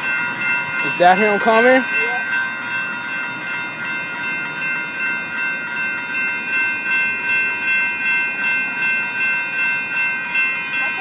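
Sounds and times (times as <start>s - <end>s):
railroad crossing bells ringing: 0.0s - 11.0s.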